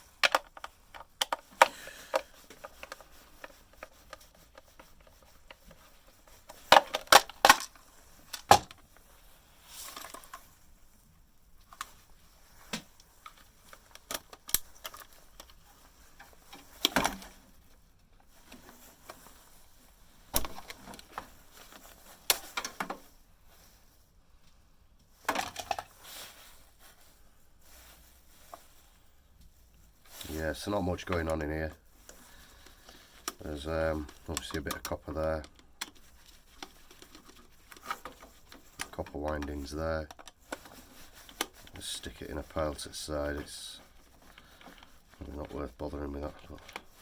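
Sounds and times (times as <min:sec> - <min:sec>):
clicks and clatters of plastic parts: 0:00.0 - 0:09.1, 0:09.8 - 0:10.6, 0:11.6 - 0:19.3, 0:20.2 - 0:23.1, 0:25.1 - 0:26.0, 0:30.1 - 0:47.0.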